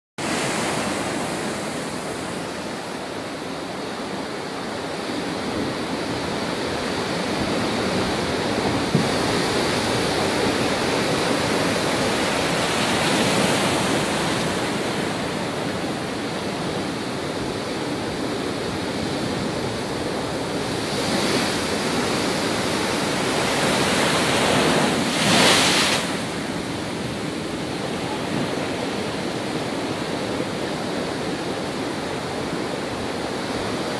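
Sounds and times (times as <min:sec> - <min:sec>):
rushing water: 0:00.2 - 0:33.9.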